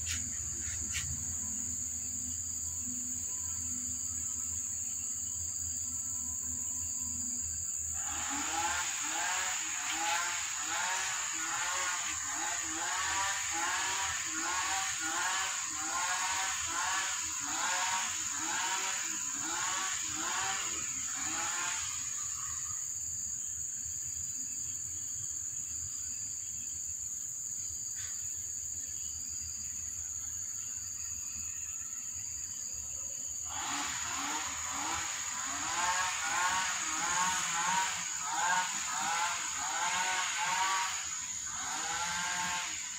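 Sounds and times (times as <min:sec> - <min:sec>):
steady high-pitched whine: 0:00.0 - 0:42.9.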